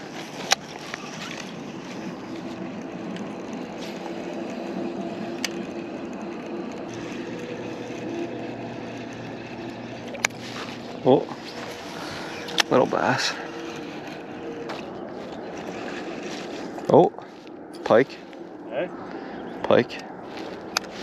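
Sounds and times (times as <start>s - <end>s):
electric motor humming: 0.0s - 18.6s.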